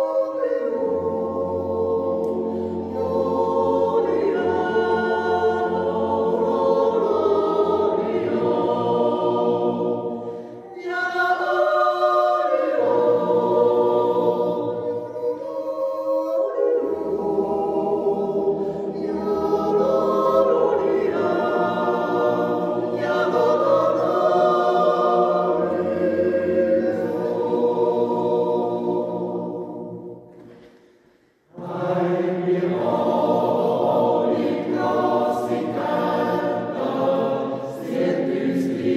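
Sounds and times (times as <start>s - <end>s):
choir yodelling in harmony: 0.0s - 30.5s, 31.5s - 38.9s.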